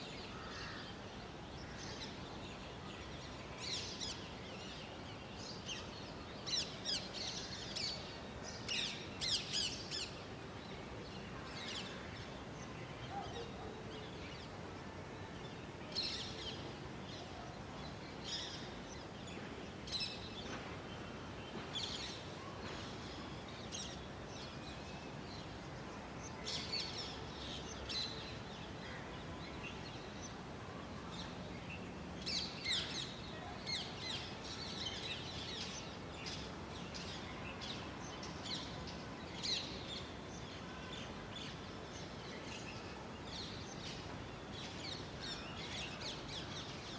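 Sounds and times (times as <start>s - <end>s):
outdoor background hiss: 0.0s - 46.9s.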